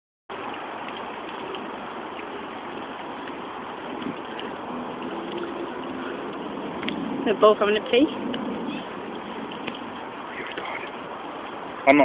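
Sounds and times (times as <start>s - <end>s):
water running from fountain: 0.3s - 12.0s.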